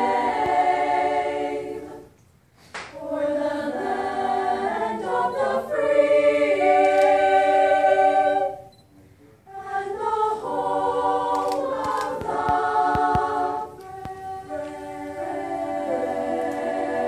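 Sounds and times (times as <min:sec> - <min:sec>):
girls choir singing a cappella: 0:00.0 - 0:08.8, 0:09.4 - 0:17.0.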